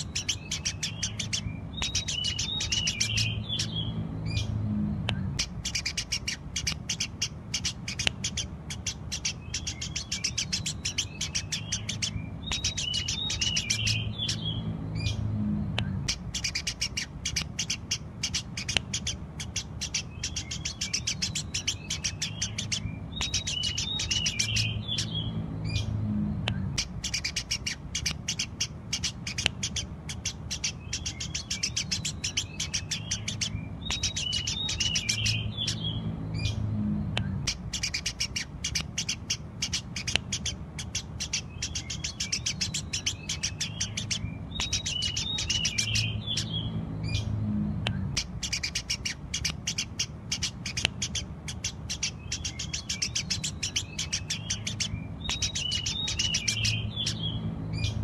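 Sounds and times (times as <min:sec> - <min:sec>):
sparrow chirping: 0:00.0 - 0:58.0
steady low hum: 0:00.0 - 0:58.0.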